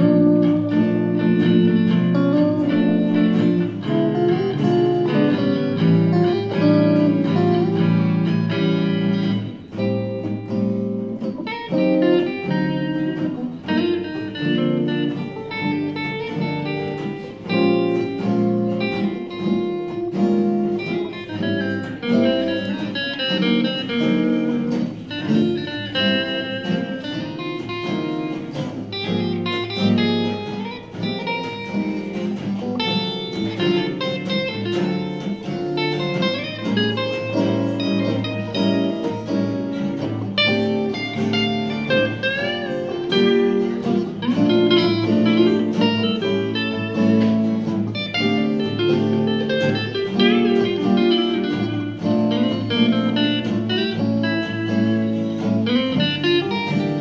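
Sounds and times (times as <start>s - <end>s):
acoustic and electric guitars playing: 0.0s - 57.0s.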